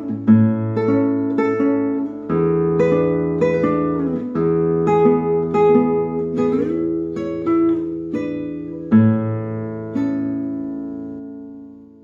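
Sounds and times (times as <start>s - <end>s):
classical guitar played fingerstyle: 0.0s - 12.0s.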